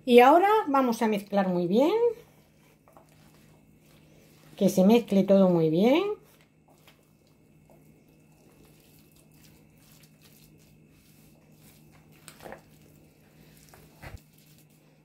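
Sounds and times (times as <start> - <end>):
faint steady hum: 0.0 - 15.0
utensil stirring potato salad: 2.2 - 15.0.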